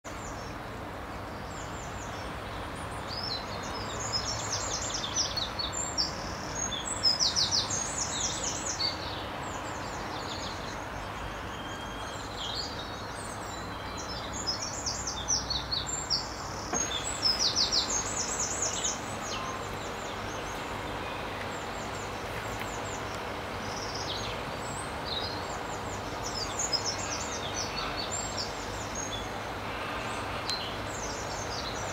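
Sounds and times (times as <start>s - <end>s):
songbird singing: 0.0s - 31.9s
flowing river water: 0.1s - 31.9s.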